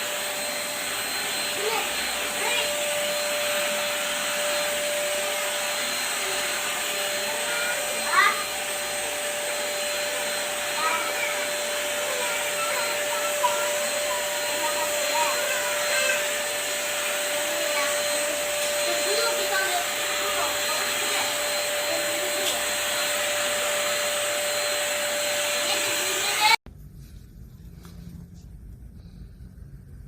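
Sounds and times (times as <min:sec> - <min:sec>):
handheld vacuum cleaner running: 0:00.0 - 0:26.6.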